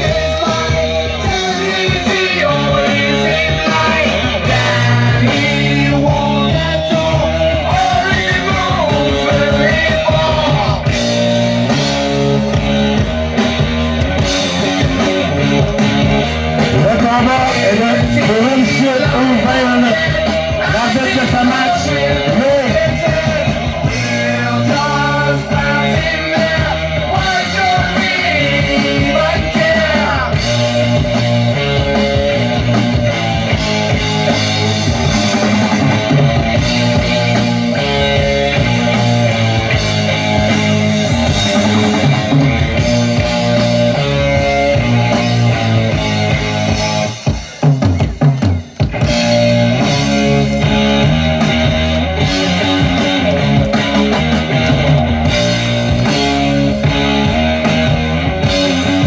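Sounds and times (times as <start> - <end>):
loud rock music: 0.0 - 59.0.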